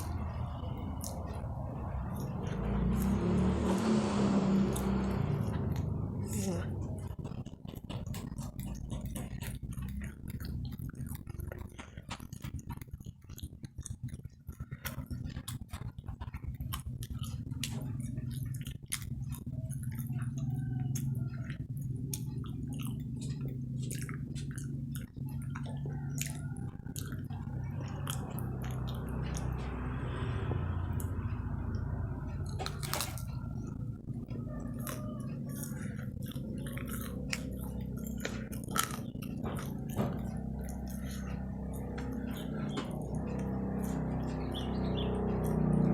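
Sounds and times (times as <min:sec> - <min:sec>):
chewing crunchy snacks: 0:00.0 - 0:45.9
low steady hum: 0:00.0 - 0:45.9.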